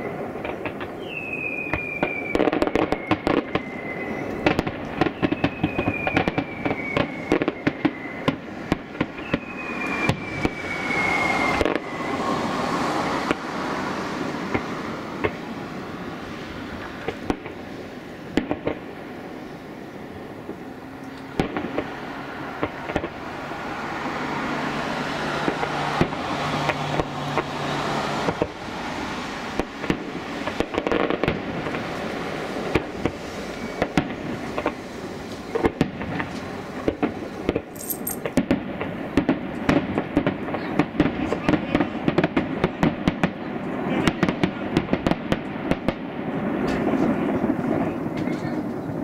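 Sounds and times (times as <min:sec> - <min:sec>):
fireworks bursting and crackling: 0:00.0 - 0:49.0.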